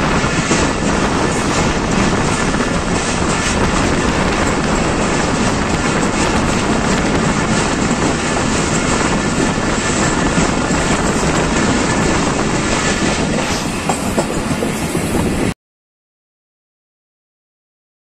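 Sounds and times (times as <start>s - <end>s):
train wheels rumbling on rails: 0.0s - 15.6s.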